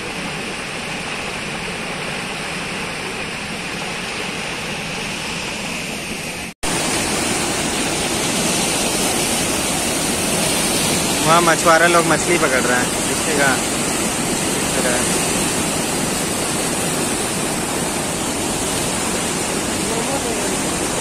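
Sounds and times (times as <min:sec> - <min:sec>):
river churning over rocks: 0:00.0 - 0:21.0
water rushing over spillway: 0:00.0 - 0:21.0.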